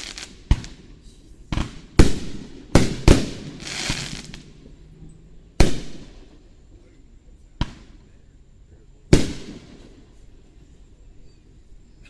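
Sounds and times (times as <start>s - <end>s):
fireworks booming: 0.0s - 8.4s, 9.0s - 11.4s
fireworks fizzing crackle: 0.0s - 12.0s.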